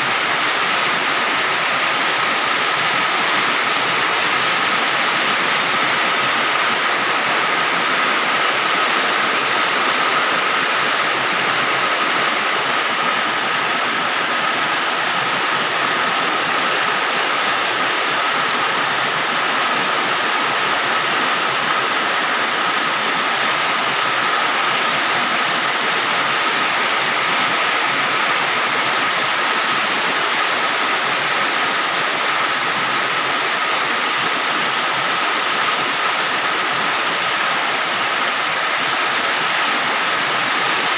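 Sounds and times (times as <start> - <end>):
rain on a metal roof: 0.0 - 40.9.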